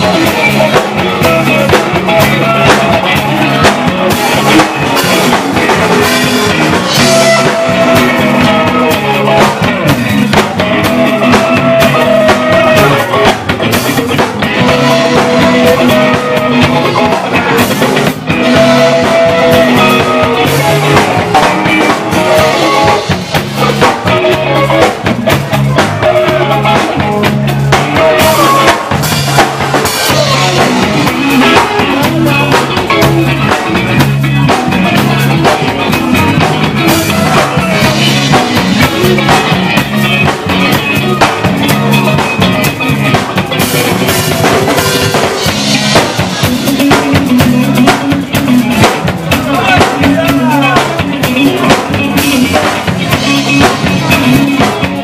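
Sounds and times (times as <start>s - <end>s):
bass line: 0.0s - 55.0s
drum kit beat: 0.0s - 55.0s
electric guitar: 0.0s - 55.0s.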